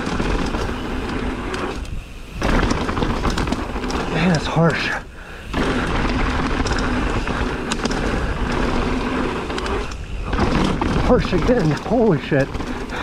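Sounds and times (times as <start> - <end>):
bike tyres and frame rattling: 0.0 - 13.0.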